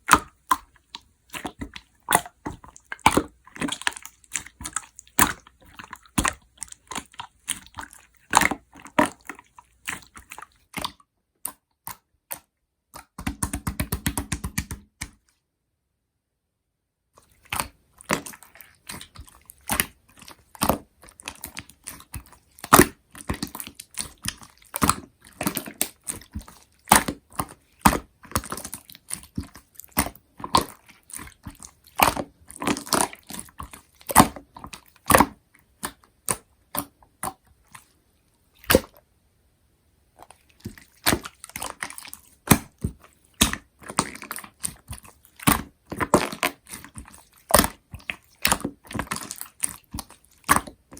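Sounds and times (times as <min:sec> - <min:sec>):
slime squished by hand: 0:00.0 - 0:15.2, 0:17.2 - 0:37.9, 0:38.6 - 0:39.0, 0:40.2 - 0:50.9.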